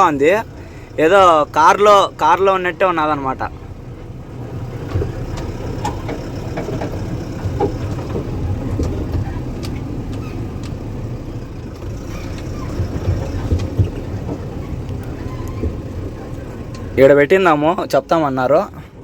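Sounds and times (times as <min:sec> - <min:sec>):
diesel truck engine rumble: 0:00.0 - 0:19.0.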